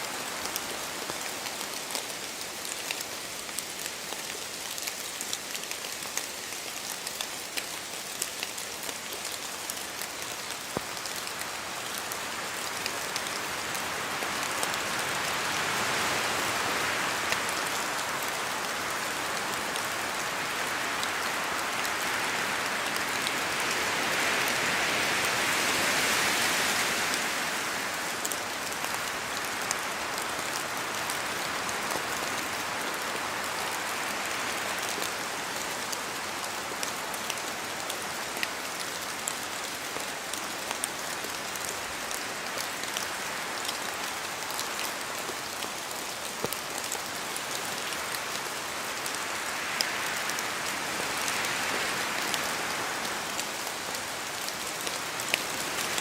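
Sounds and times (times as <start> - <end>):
rain dripping from trees: 0.0 - 56.0.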